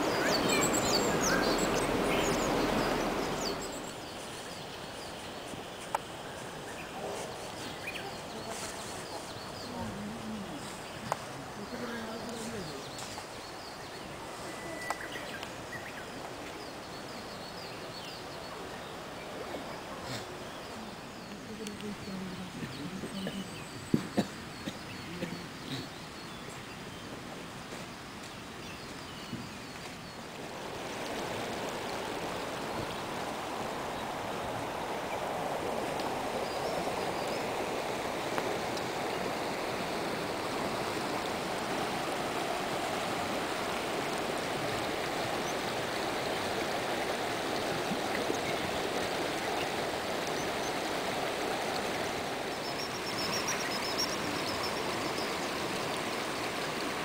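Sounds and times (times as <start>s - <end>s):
fast river rushing: 0.0s - 57.0s.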